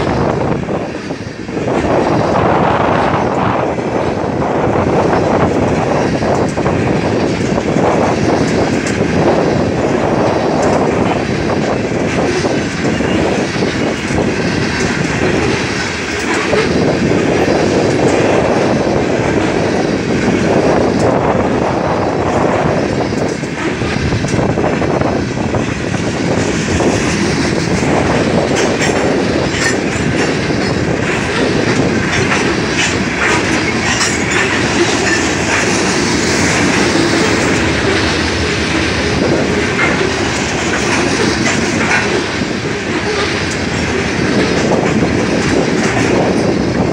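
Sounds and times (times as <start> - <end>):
steel wheels clicking over rail joints: 0.0 - 46.9
train rumble: 0.0 - 46.9.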